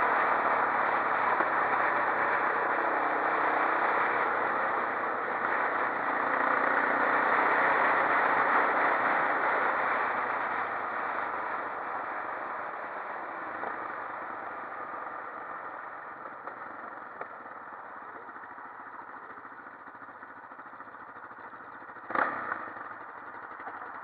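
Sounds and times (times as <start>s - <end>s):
quad bike engine: 0.0s - 24.0s
road noise: 0.0s - 24.0s.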